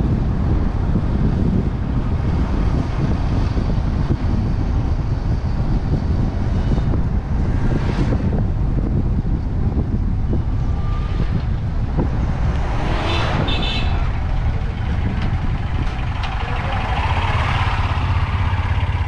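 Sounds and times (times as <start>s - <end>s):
passing traffic rush: 0.0s - 19.0s
vehicle engine rumble and road noise: 0.0s - 19.0s.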